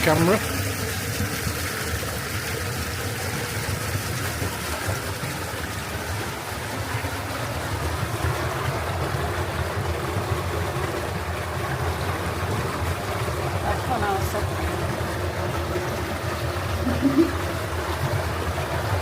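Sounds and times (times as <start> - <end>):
water rushing in channel: 0.0 - 19.0.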